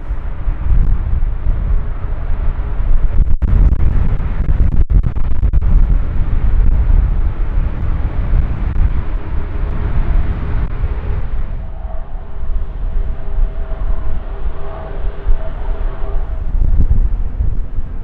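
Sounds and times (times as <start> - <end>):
jet engines running loud: 0.0 - 18.0.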